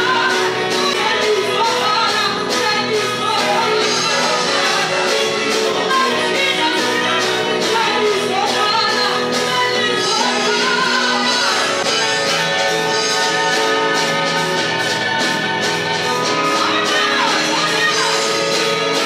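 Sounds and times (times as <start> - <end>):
music with steady beat: 0.0 - 19.0
people singing: 0.0 - 19.0.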